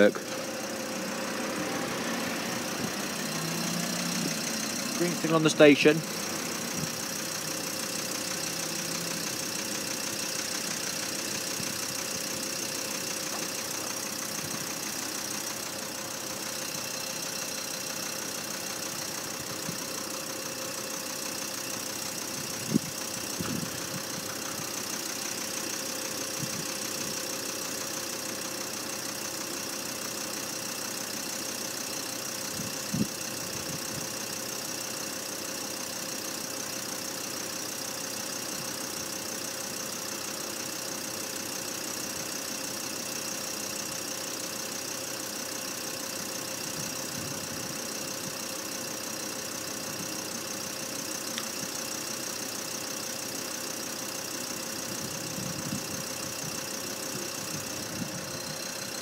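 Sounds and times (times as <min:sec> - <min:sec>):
engine idling hum: 0:00.0 - 0:59.0.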